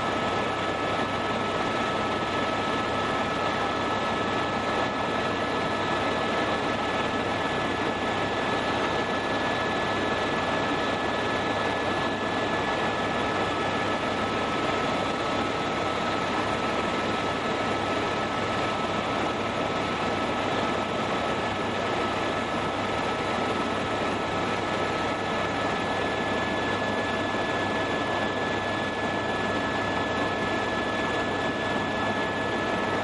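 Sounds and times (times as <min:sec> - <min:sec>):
helicopter rotor and engine: 0:00.0 - 0:33.0.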